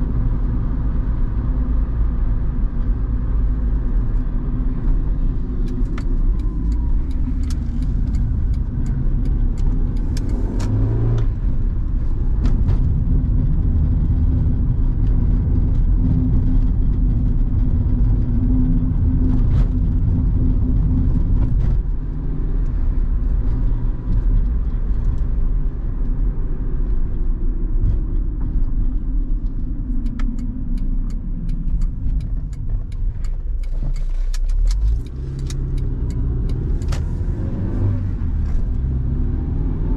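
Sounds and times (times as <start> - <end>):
car engine inside cabin: 0.0 - 39.9.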